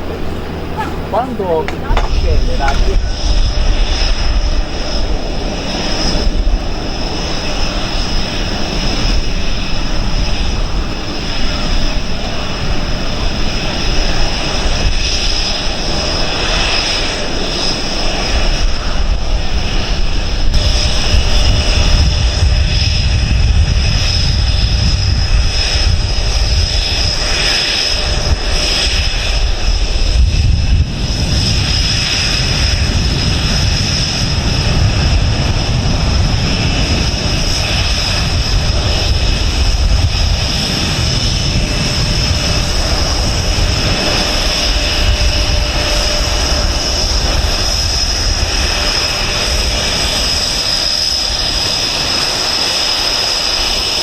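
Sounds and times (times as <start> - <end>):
jet flying past: 0.0 - 54.0
steady high whine: 0.0 - 54.0.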